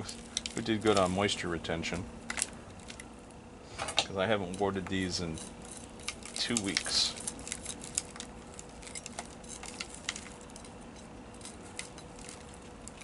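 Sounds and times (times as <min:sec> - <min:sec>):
metal hook raking through roots: 0:00.0 - 0:03.1, 0:04.0 - 0:13.0
soil crumbs pattering: 0:00.0 - 0:03.4, 0:04.1 - 0:13.0.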